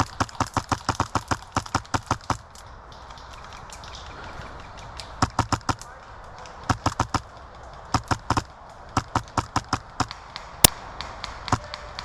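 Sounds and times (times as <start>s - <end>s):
airsoft guns firing: 0.0s - 4.3s, 5.0s - 12.0s.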